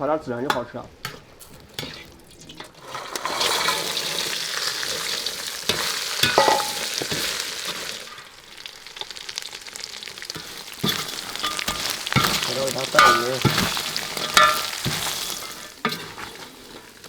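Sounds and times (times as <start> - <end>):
spatula scraping the pan: 0.5 - 8.4, 10.2 - 17.0
meat sizzling in a pan: 1.0 - 17.0.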